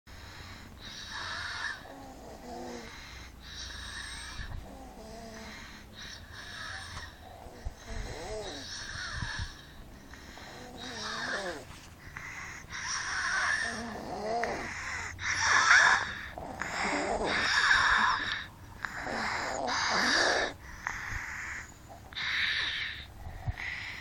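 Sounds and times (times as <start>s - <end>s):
wheezy rasping snores: 0.8s - 9.6s, 10.3s - 24.0s.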